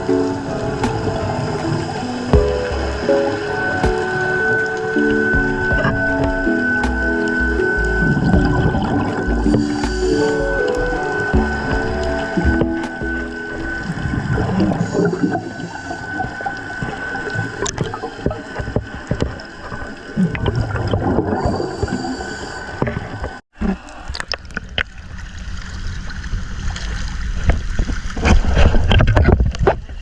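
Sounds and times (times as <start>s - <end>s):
water rushing and gurgling: 0.0s - 30.0s.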